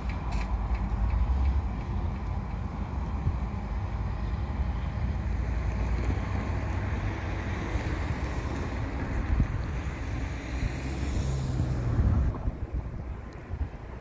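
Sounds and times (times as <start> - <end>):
diesel locomotive engines rumbling: 0.0 - 14.0
wind buffeting microphone: 0.0 - 14.0.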